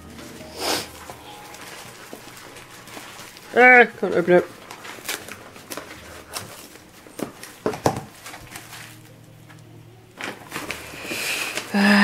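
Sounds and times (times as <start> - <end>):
cellophane wrap crinkling: 0.0 - 12.0.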